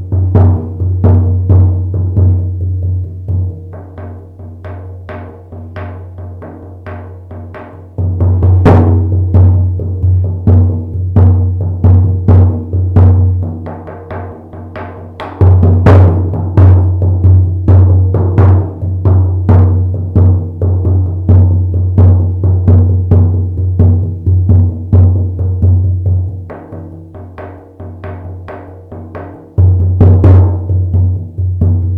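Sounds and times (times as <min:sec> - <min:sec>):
frame drum beating: 0:00.0 - 0:31.9.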